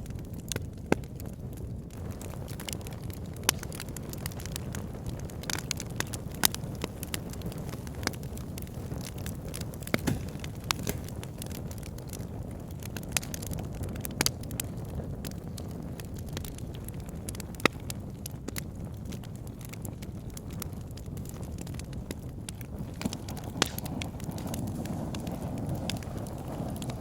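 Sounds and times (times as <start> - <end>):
logs crackling and popping: 0.0 - 27.0
low rumble of flames: 0.0 - 27.0.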